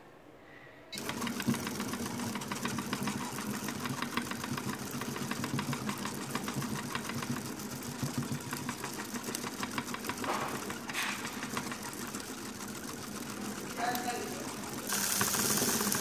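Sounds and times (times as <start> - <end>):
motor hum: 0.9 - 16.0
gear reducer clattering: 1.0 - 16.0.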